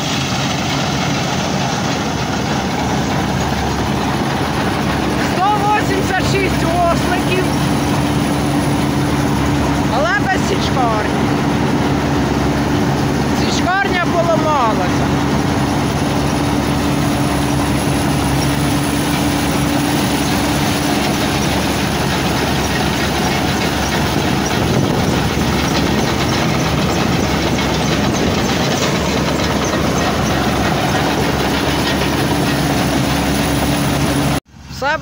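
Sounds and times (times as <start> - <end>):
rattle of machine working parts: 0.0 - 34.4
combine harvester engine hum: 0.0 - 35.0.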